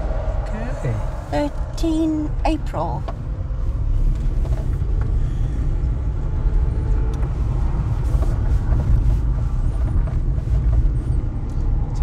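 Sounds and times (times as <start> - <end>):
car rumbling on dirt road: 0.0 - 12.0.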